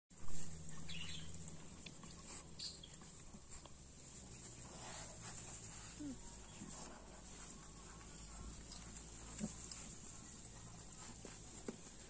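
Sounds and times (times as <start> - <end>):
faint steady hiss: 0.1 - 12.0
puppies nursing smacks: 0.1 - 12.0
shuffling in straw: 0.2 - 12.0.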